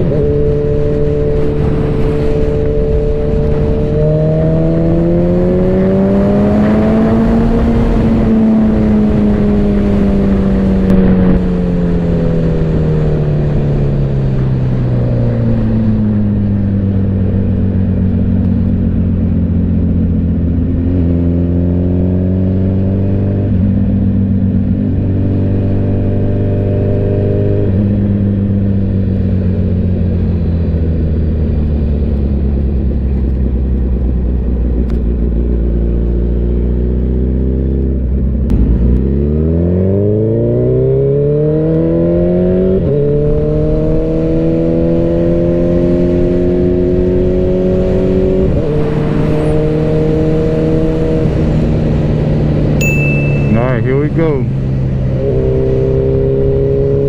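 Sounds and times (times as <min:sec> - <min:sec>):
motorcycle engine accelerating: 0:00.0 - 0:53.5, 0:54.5 - 0:57.0.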